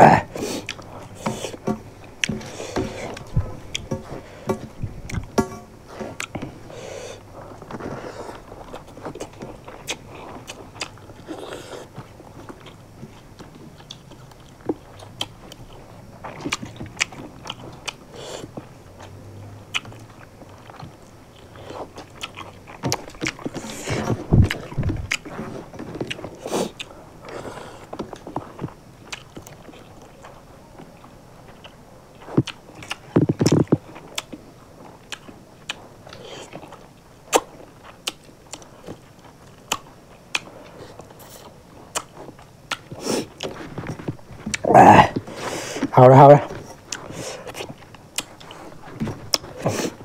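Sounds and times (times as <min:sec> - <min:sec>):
people chewing and crunching food: 0:00.0 - 0:50.0.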